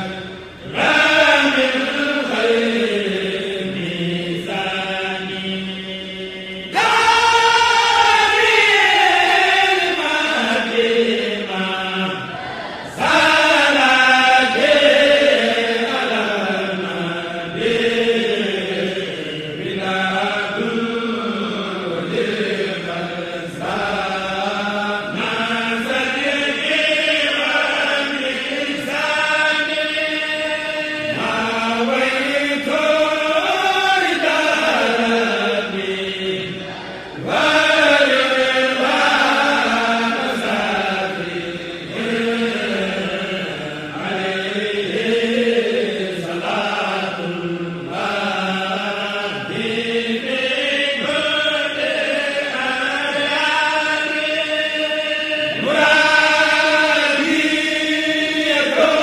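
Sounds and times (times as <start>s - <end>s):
person chanting religious poem: 0.0s - 59.0s.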